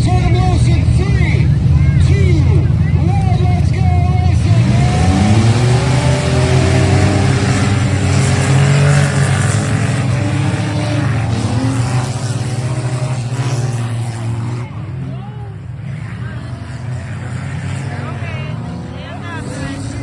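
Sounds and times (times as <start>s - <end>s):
race car engines accelerating: 0.0s - 20.0s.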